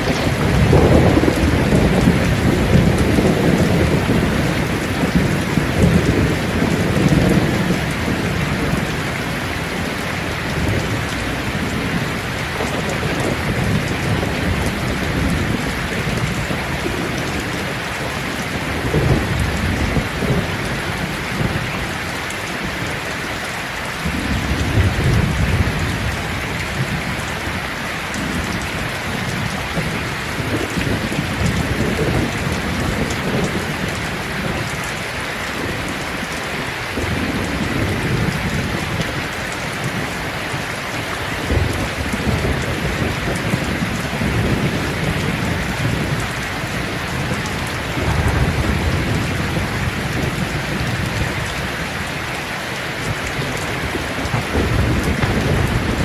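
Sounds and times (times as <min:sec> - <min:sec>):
thunder rumbling: 0:00.0 - 0:23.4, 0:24.0 - 0:36.2, 0:36.8 - 0:56.0
rain pattering on leaves: 0:00.0 - 0:56.0.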